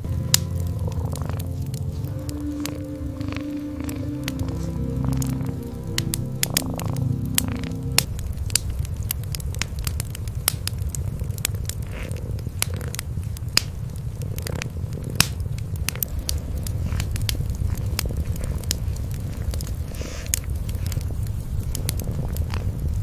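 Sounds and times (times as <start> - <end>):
cats purring: 0.0 - 8.2, 8.9 - 23.0
wood fire crackling: 0.0 - 23.0.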